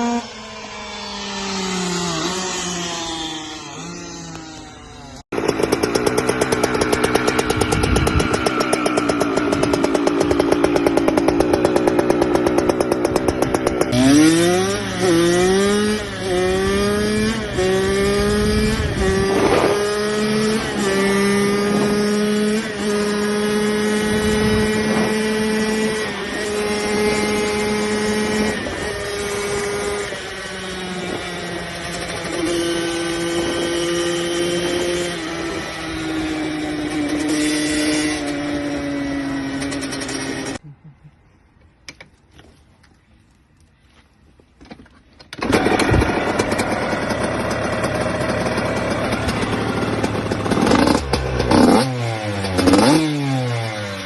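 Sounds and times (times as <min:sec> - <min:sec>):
dirt bike engine revving: 0:00.0 - 0:40.6, 0:45.4 - 0:54.0.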